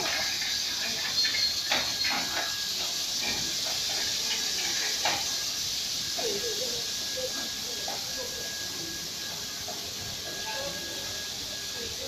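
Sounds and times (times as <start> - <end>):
spray nozzles hissing: 0.0 - 12.0.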